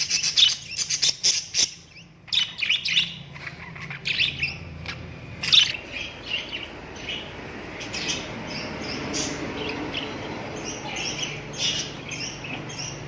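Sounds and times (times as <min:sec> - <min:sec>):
small parrots chirping: 0:00.0 - 0:13.0.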